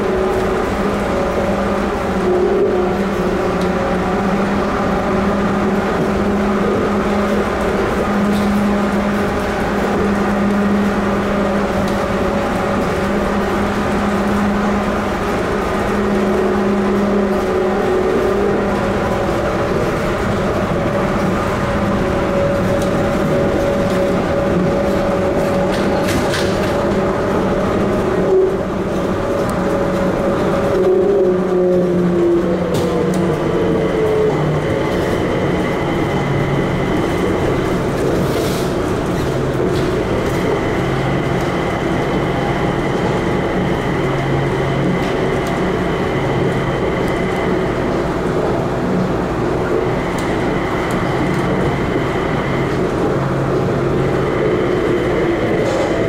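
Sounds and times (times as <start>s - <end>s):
train rolling noise: 0.0s - 56.0s.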